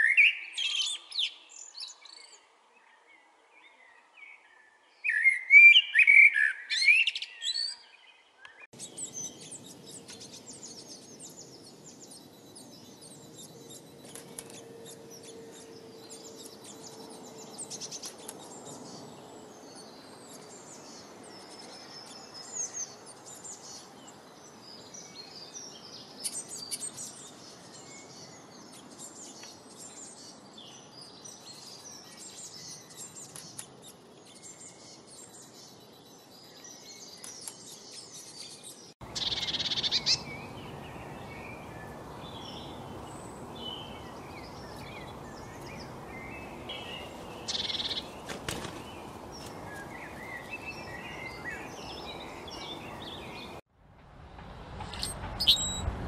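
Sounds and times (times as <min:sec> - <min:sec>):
songbirds chirping: 0:00.0 - 0:53.7
outdoor background hiss: 0:08.7 - 0:38.1, 0:38.8 - 0:56.0.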